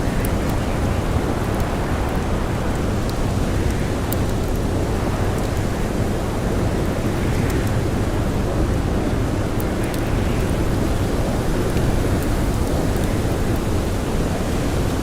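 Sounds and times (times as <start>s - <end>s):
faint campfire crackles: 0.0s - 15.0s
rushing blizzard wind: 0.0s - 15.0s.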